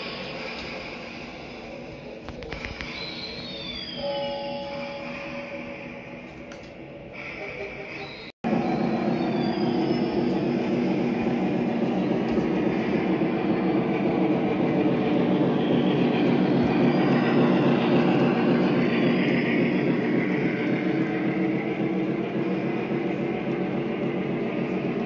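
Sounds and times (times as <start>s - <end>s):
model train rumbling: 0.0s - 25.0s.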